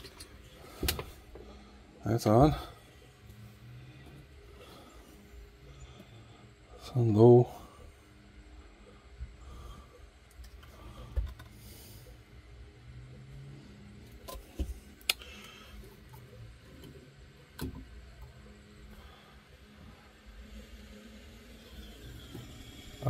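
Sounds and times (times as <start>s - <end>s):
amplifier hum and hiss: 0.0s - 23.0s.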